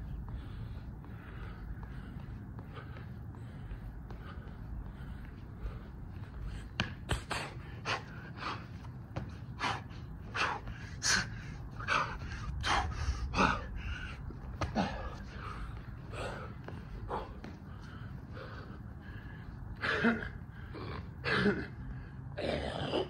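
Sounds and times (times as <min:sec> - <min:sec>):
man panting hard: 0:00.0 - 0:22.7.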